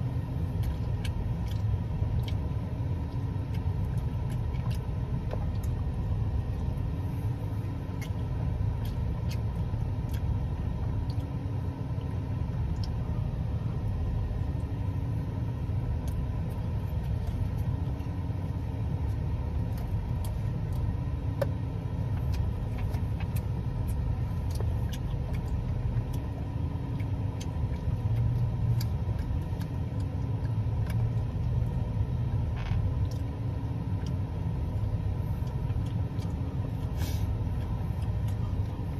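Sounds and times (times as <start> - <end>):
low rumble: 0.0 - 38.9
person chewing a sandwich: 0.0 - 38.9.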